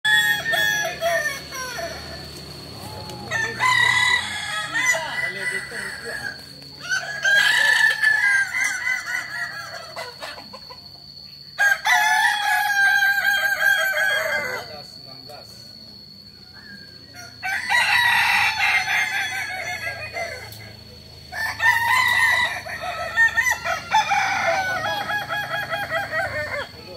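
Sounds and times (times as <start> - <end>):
roosters crowing: 0.0 - 26.9.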